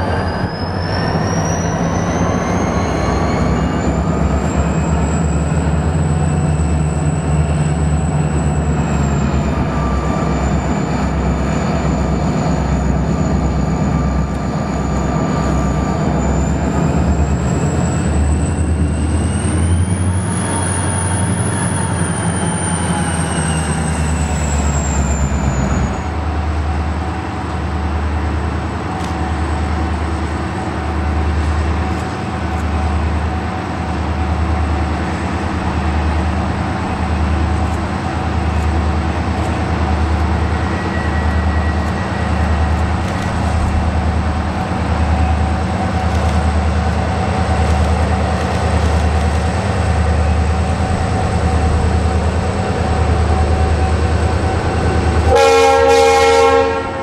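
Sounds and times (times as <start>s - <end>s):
train rolling rumble: 0.0s - 57.0s.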